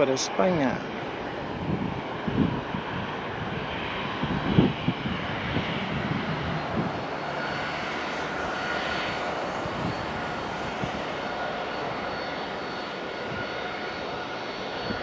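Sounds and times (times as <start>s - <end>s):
faint engine whine: 0.0s - 15.0s.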